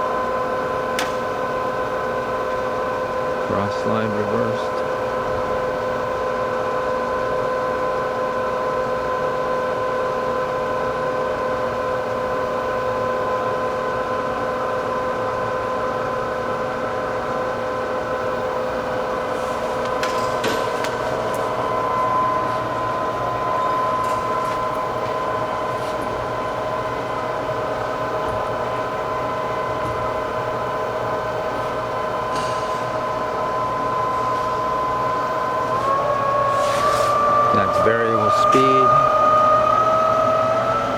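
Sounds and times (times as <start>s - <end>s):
lathe gear whine: 0.0s - 40.9s.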